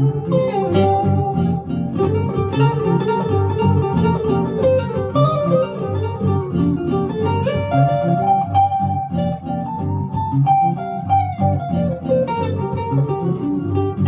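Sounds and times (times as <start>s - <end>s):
guitar picking single notes: 0.0s - 14.0s.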